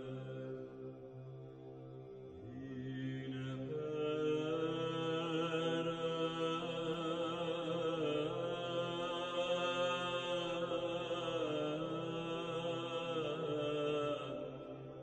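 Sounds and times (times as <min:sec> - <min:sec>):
chanting voices: 0:00.0 - 0:15.0.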